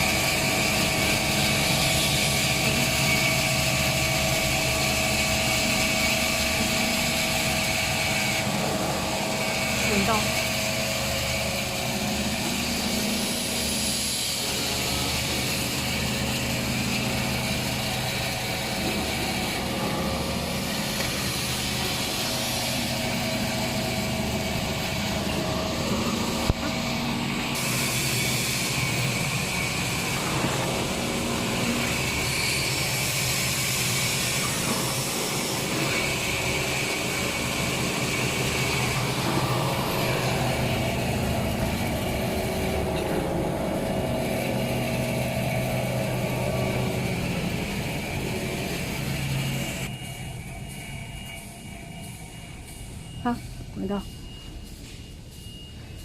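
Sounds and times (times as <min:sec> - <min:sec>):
band saw machine droning: 0:00.0 - 0:56.0.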